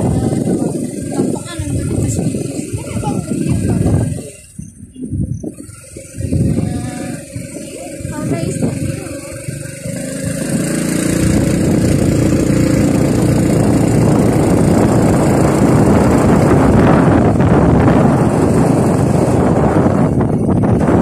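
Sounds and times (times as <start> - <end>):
vehicle engine: 0.0 - 21.0
wind rushing over microphone: 0.0 - 21.0.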